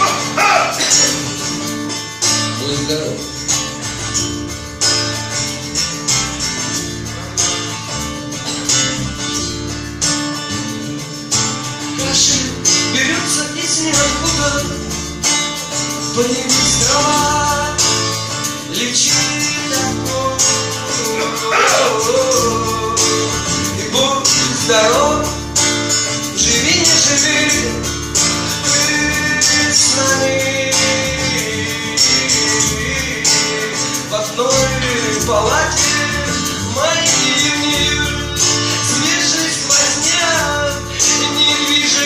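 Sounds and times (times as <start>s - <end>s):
electric guitar: 0.0s - 42.0s
live rock band playing: 0.0s - 42.0s.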